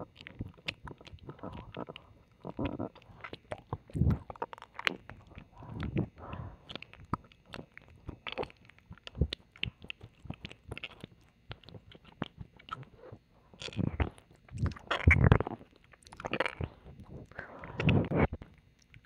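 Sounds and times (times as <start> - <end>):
wet mouth clicks and slurps: 0.0 - 19.0.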